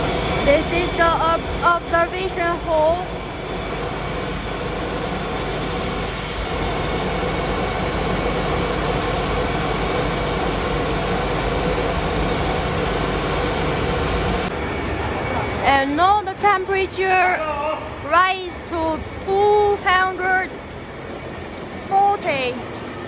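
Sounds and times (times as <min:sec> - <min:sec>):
faint hum: 0:00.0 - 0:22.7
gas burner rushing: 0:00.0 - 0:23.0.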